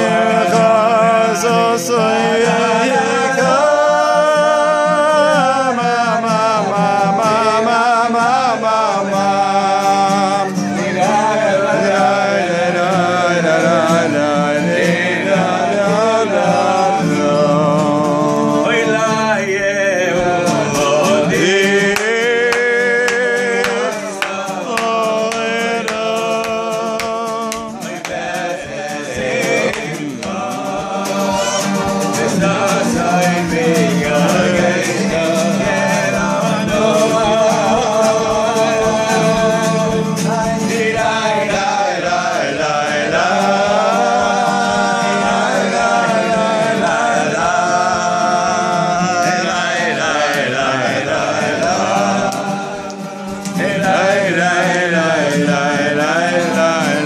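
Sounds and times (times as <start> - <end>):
acoustic guitars strumming: 0.0 - 57.0
men singing with vibrato: 0.0 - 57.0.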